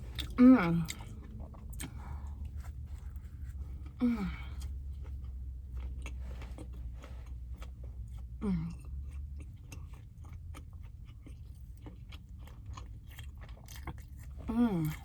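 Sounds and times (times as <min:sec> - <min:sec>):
chewing food with wet mouth clicks: 0:00.0 - 0:15.0.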